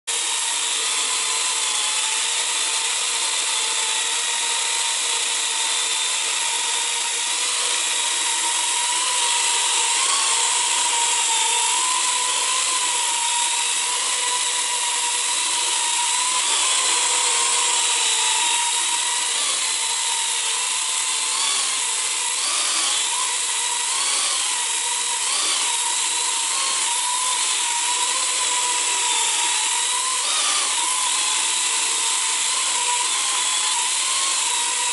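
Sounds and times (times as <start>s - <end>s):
quadcopter rotors whining: 1.3s - 34.9s.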